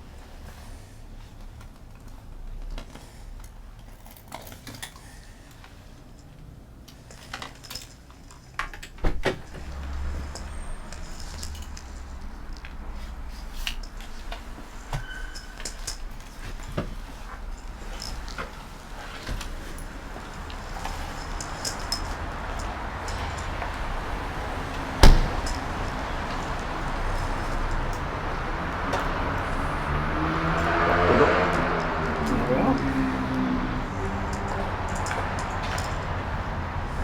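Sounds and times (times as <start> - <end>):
handling clicks and knocks: 1.2 - 37.0.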